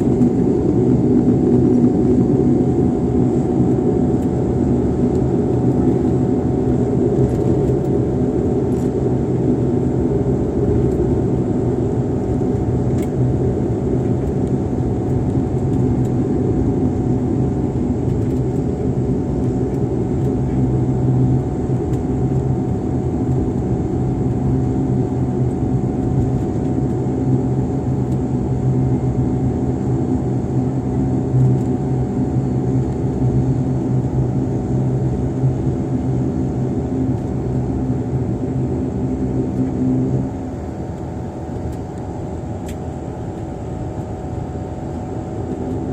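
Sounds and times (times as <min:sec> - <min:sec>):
airliner engine rumble in cabin: 0:00.0 - 0:45.9
low hum: 0:00.0 - 0:45.9.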